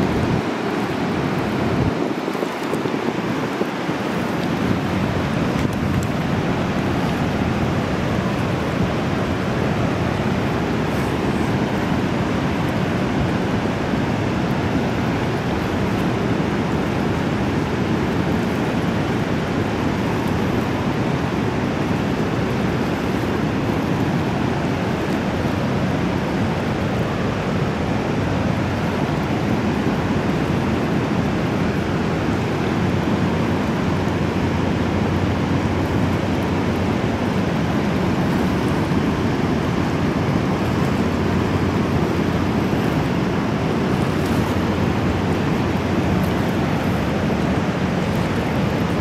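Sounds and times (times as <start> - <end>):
rushing river water: 0.0 - 49.0
waterfall roaring: 0.0 - 49.0.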